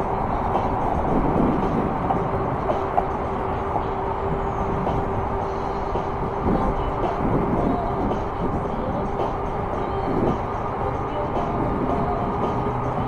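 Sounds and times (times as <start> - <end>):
tyres rolling on pavement: 0.0 - 13.0
wind buffeting microphone: 0.0 - 13.0.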